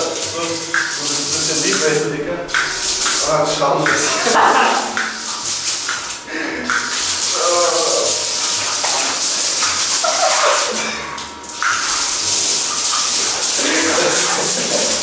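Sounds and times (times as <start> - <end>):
water jet spraying in shower: 0.0 - 15.0.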